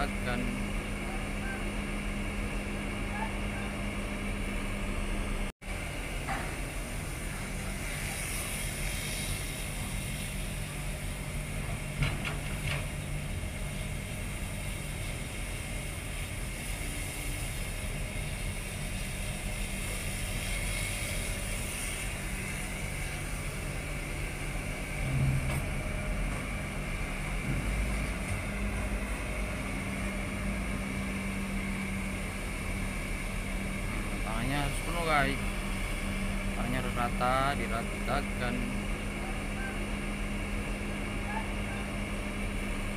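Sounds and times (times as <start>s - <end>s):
excavator diesel engine droning: 0.0s - 42.9s.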